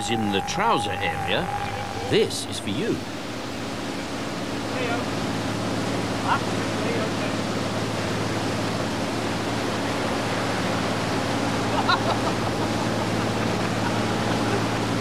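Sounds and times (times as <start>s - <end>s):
boat engine humming: 0.0s - 15.0s
water rushing in boat wake: 0.0s - 15.0s.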